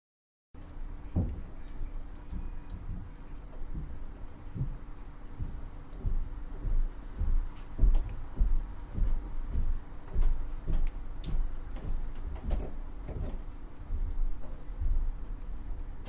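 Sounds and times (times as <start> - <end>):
soft low thuds: 2.3 - 16.0.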